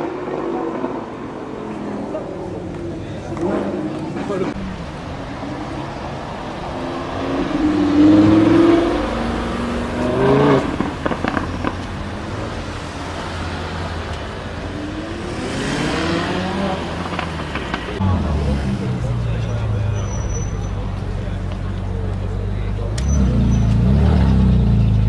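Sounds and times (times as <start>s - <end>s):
exhaust crackles: 3.3s - 25.0s
sports car engine revving: 3.4s - 25.0s.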